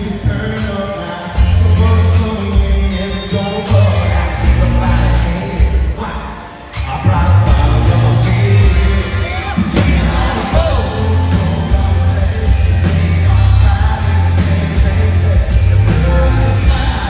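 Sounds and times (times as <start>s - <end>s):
country-rock band playing: 0.0s - 17.0s
man singing lead: 0.0s - 17.0s.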